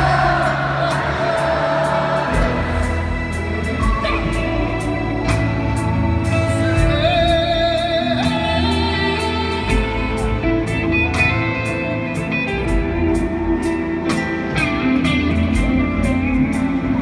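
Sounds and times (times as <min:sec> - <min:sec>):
piano: 0:00.0 - 0:17.0
upright double bass: 0:00.0 - 0:17.0.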